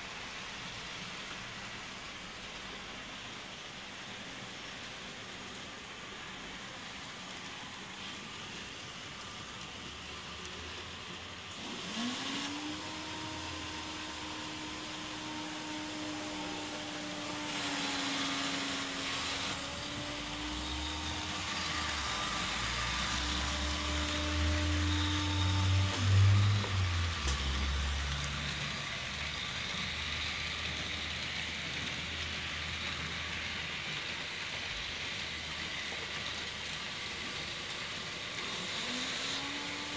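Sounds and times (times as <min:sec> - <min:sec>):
model train motors whirring: 0:00.0 - 0:39.9
wheels on track: 0:00.0 - 0:39.9.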